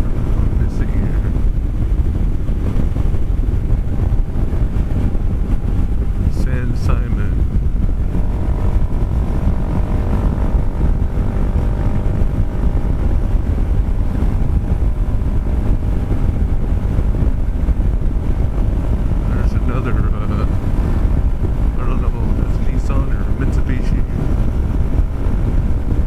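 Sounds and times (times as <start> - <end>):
faint steady whine: 0.0 - 26.0
scooter engine drone: 0.0 - 26.0
wind rumble on microphone: 0.0 - 26.0.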